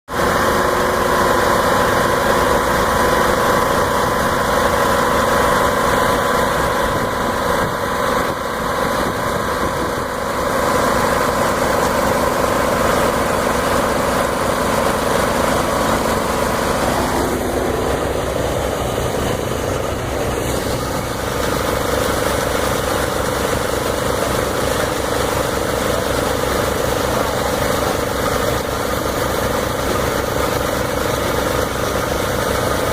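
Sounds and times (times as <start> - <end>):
engine running: 0.1 - 32.9.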